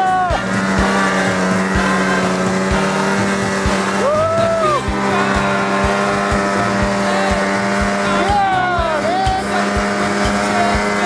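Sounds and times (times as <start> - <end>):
short rising and falling tone: 0.0 - 11.0
snowmobile engine running: 0.0 - 11.0.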